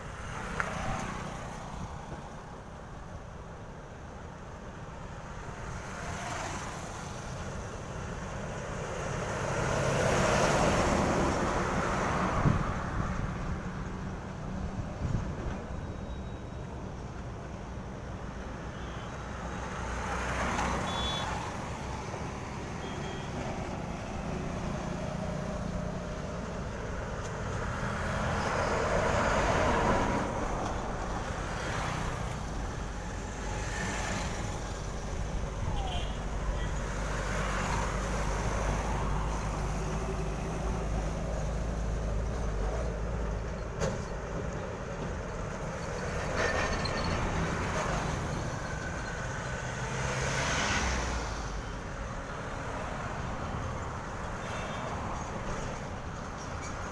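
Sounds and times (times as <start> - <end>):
trucks passing: 0.0 - 56.9.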